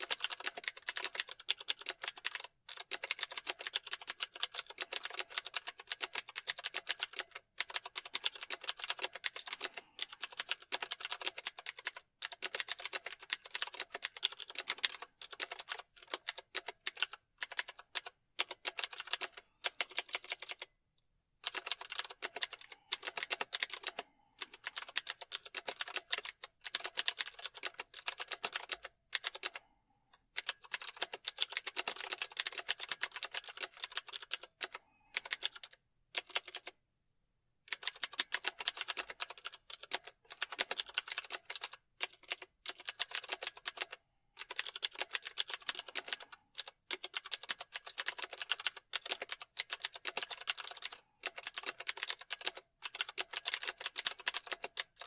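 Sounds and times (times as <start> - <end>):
typing on computer keyboard: 0.0 - 20.7, 21.4 - 36.8, 37.7 - 55.0.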